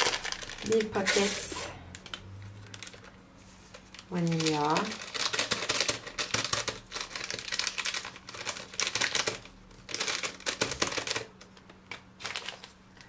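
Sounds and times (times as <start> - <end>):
paper sachet crinkling and tapping: 0.0 - 1.3, 1.9 - 13.0.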